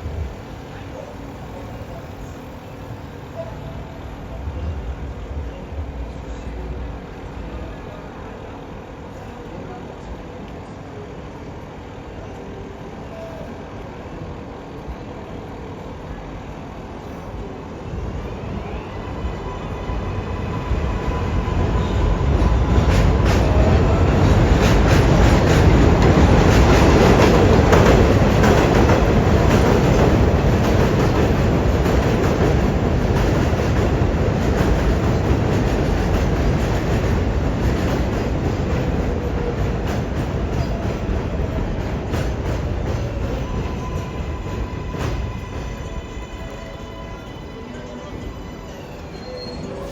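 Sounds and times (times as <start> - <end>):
elevated train rumbling: 0.0 - 49.9.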